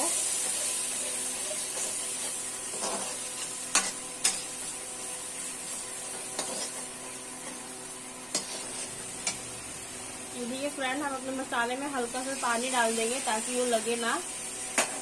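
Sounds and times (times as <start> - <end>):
tomatoes sizzling in hot oil: 0.0 - 15.0.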